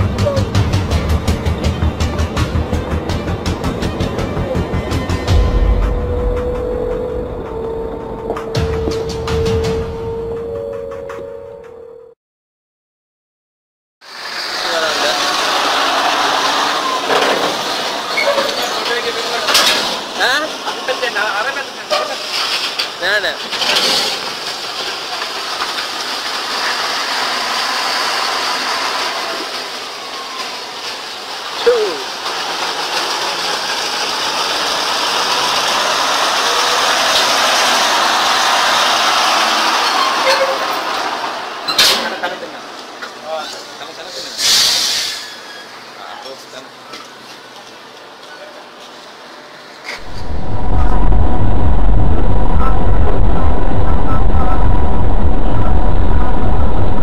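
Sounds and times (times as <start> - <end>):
truck diesel engine passing: 0.0 - 10.7, 14.1 - 23.3, 24.2 - 46.0, 49.2 - 57.0.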